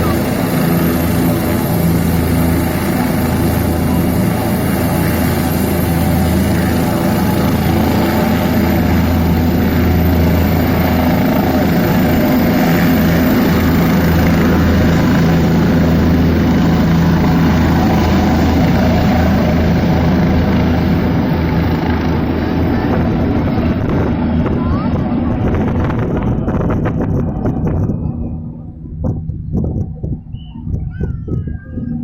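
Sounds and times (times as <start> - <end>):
helicopter drone: 0.0 - 32.0.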